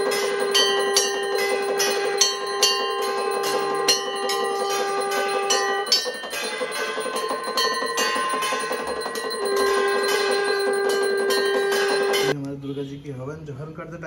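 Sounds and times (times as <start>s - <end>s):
brass hand bell ringing: 0.0s - 12.4s.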